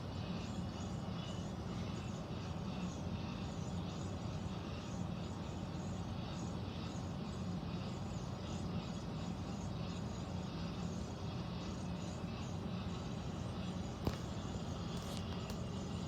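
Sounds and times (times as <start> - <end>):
air conditioning humming and hissing: 0.0 - 16.0.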